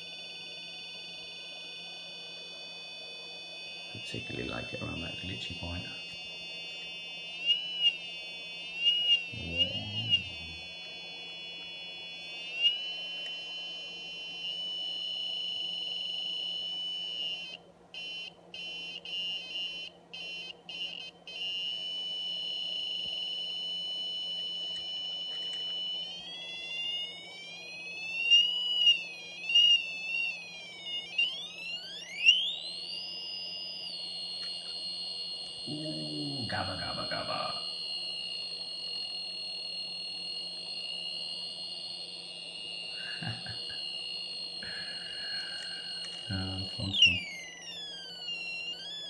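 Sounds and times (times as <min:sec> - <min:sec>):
high-pitched electronic buzzer tone: 0:00.0 - 0:49.0.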